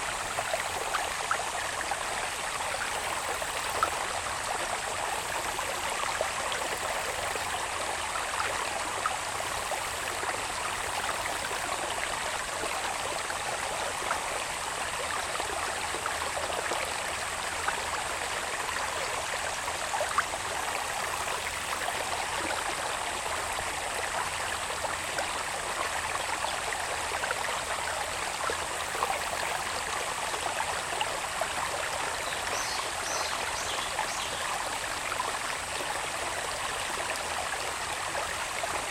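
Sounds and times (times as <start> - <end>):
water babbling in channel: 0.0 - 38.9.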